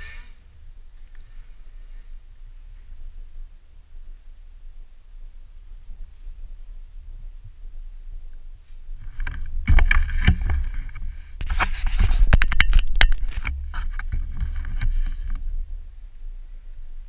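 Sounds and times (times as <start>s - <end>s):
scraping on microphone: 0.0s - 3.3s, 5.8s - 16.2s
low rumble: 0.0s - 17.0s.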